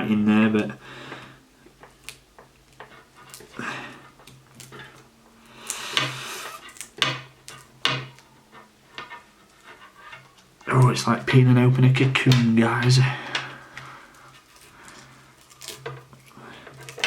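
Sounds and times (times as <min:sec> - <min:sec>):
crinkly tape rasp: 0:01.7 - 0:17.0.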